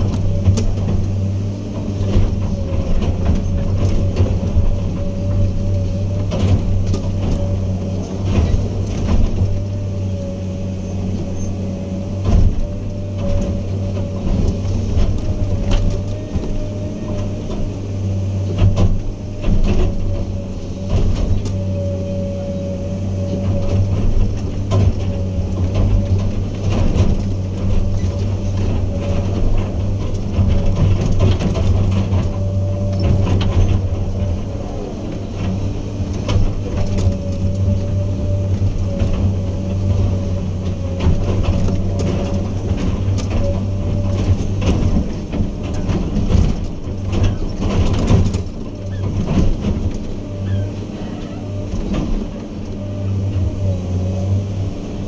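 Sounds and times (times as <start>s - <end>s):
heavy diesel machinery running: 0.0s - 55.0s
machine whine: 0.0s - 55.0s.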